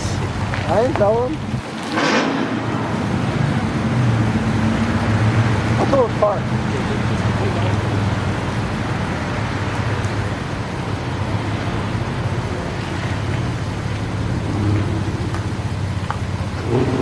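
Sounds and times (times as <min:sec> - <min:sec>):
car engines running: 0:00.0 - 0:17.0
road noise: 0:00.0 - 0:17.0.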